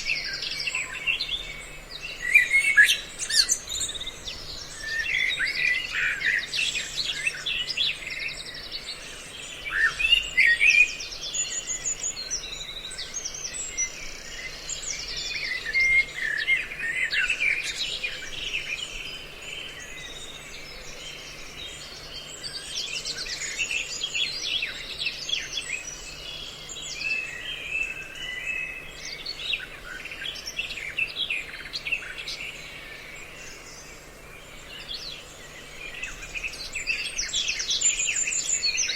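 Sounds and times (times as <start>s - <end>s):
recorded bird calls: 0.0s - 38.9s.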